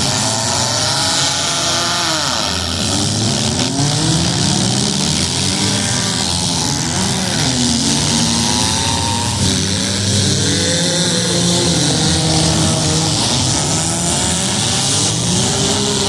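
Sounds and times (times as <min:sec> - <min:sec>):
car engines revving: 0:00.0 - 0:16.0
engine and exhaust hiss: 0:00.0 - 0:16.0.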